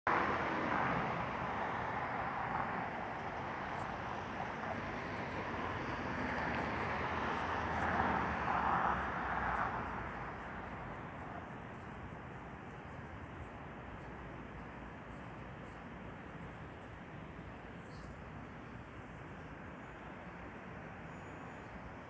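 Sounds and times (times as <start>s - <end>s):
road traffic passing: 0.1s - 22.0s.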